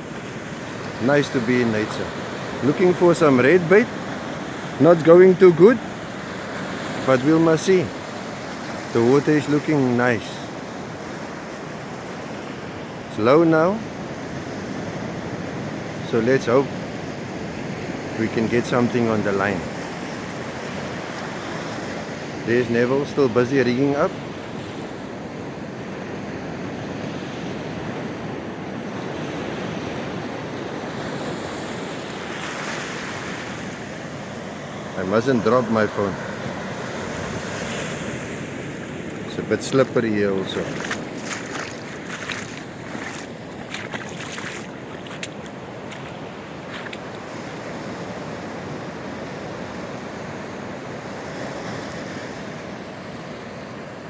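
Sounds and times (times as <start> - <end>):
sea surf breaking on shore: 0.0 - 54.0
wind: 0.0 - 54.0.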